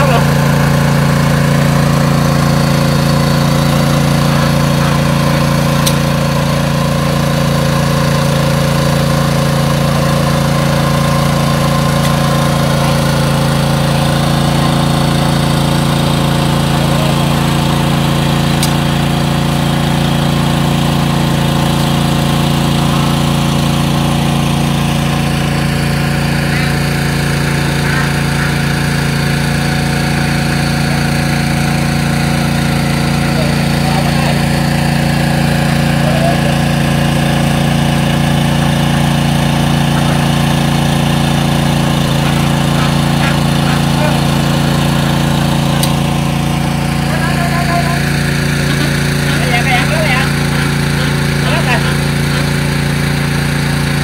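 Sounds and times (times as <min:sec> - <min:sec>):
small engine driving water pump: 0:00.0 - 0:54.0.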